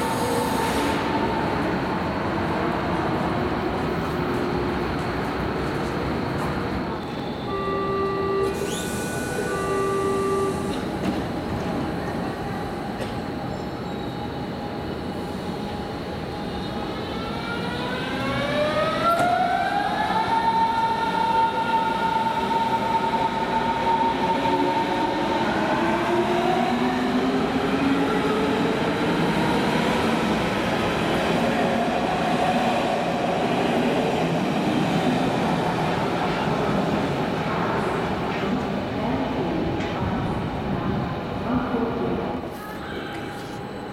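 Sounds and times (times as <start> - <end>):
electric train whine: 0.0 - 37.1.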